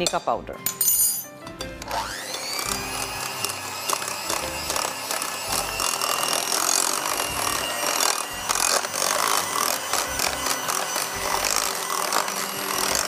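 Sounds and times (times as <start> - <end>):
electric hand mixer whirring: 1.8 - 13.0.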